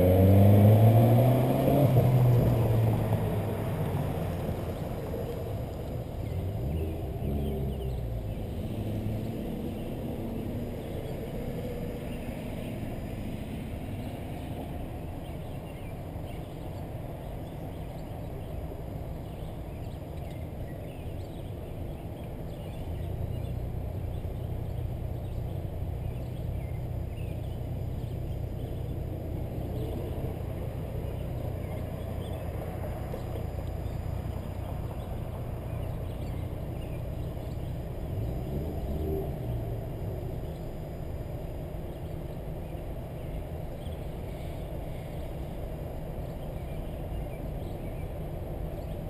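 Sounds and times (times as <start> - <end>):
car engine humming: 0.0 - 49.0.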